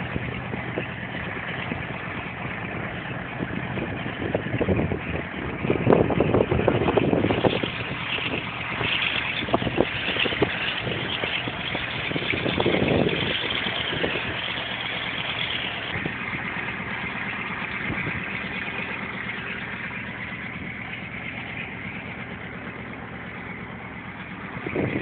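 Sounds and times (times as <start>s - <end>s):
propeller aircraft engines droning: 0.0s - 25.0s.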